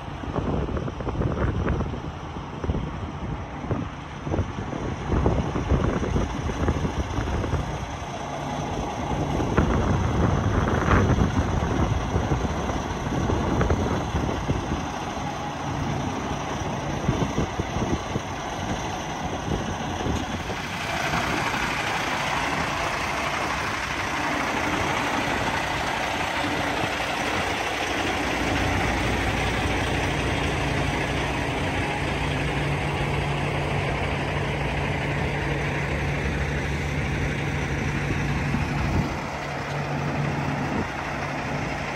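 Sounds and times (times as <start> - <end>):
truck diesel engine idling: 0.0 - 41.9
wind buffeting microphone: 0.0 - 41.9.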